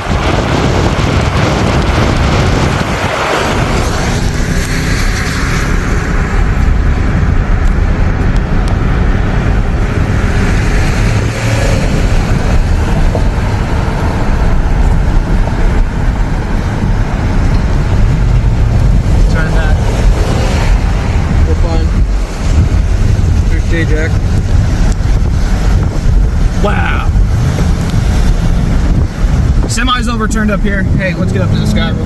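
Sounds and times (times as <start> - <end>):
car driving on highway: 0.0 - 32.0.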